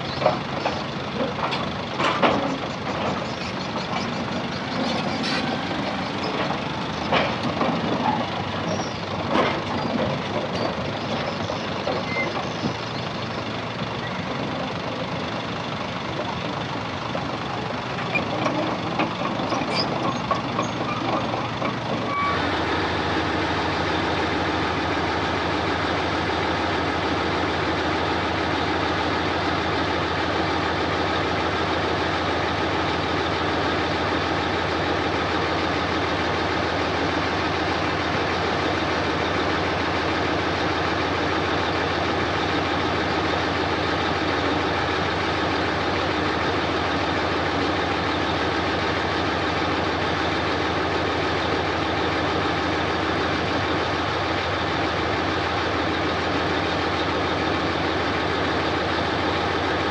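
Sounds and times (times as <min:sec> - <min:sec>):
diesel earthmoving machinery: 0:00.0 - 0:59.9.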